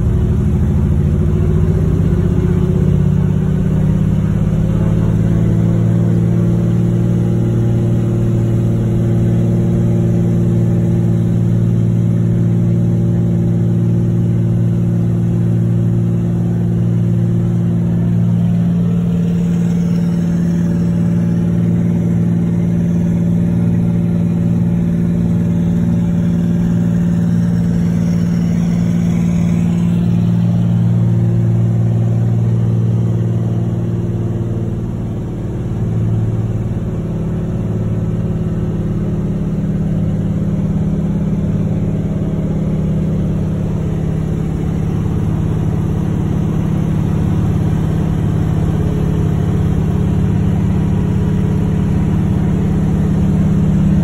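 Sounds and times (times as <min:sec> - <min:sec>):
propeller engine drone: 0:00.0 - 0:54.0.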